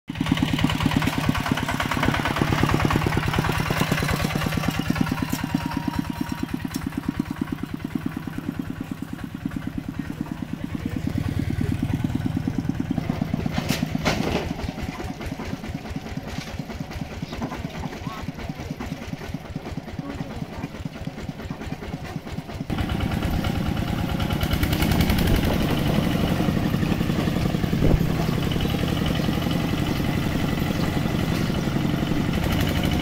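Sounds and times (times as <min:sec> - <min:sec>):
diesel engine chugging: 0:00.1 - 0:33.0.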